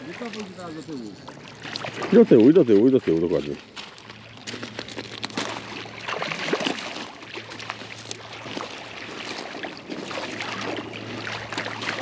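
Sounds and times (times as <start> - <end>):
low steady hum: 0.0 - 12.0
water splashing and lapping: 0.0 - 12.0.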